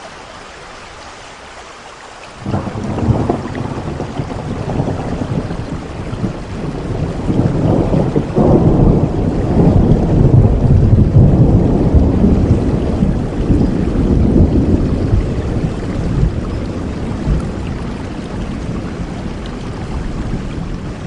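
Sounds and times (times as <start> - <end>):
heavy rain: 0.0 - 21.0
thunder rumbling: 2.4 - 21.0.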